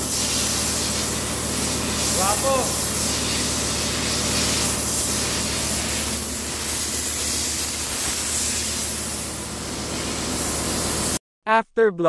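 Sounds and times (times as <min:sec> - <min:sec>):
compressed air hissing from blow gun: 0:00.0 - 0:11.2.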